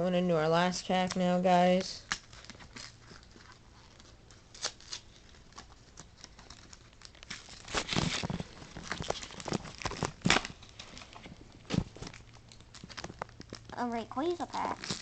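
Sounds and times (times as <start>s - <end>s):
foil wrapper crinkling: 1.0s - 15.0s.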